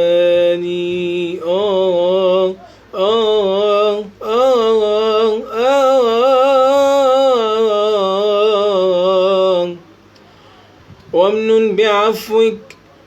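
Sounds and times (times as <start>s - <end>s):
man singing without words: 0.0s - 10.0s, 11.1s - 12.8s.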